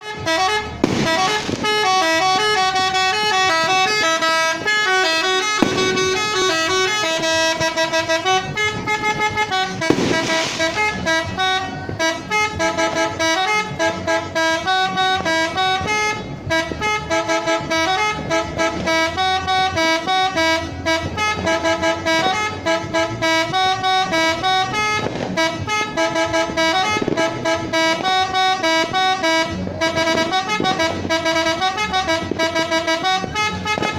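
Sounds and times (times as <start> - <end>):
multi-tone air horn melody: 0.0 - 33.9.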